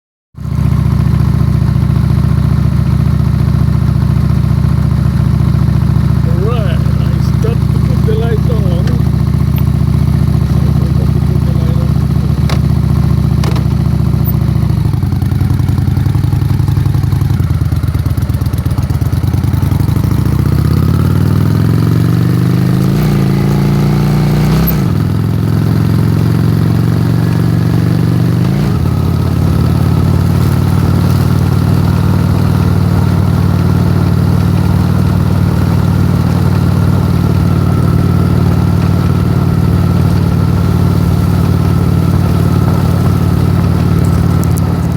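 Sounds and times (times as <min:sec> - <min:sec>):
motorcycle engine running: 0:00.4 - 0:44.9.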